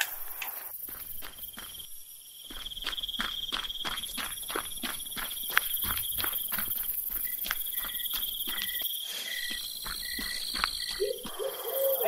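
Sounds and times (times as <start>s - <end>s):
crickets trilling: 0.0s - 12.0s
footsteps through undergrowth: 0.0s - 12.0s.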